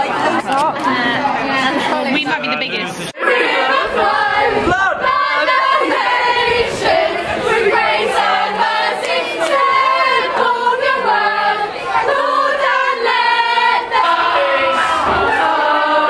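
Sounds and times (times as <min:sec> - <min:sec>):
group of voices singing in chorus: 0:03.1 - 0:16.0.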